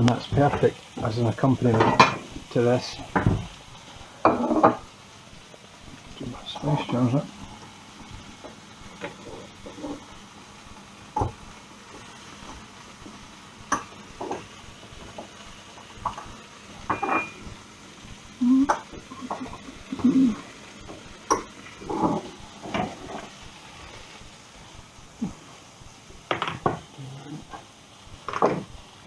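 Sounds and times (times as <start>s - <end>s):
chicken sizzling in a pan: 0.0s - 29.0s.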